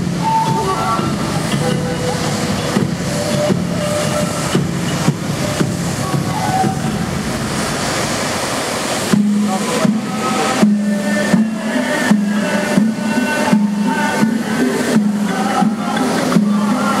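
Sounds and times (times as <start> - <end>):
music over loudspeakers: 0.0 - 8.1, 9.0 - 17.0
fountain jets spraying: 0.0 - 17.0.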